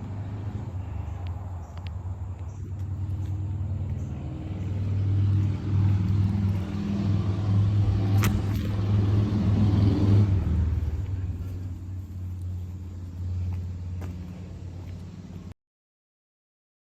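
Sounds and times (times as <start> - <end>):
car engine running: 0.0 - 15.5.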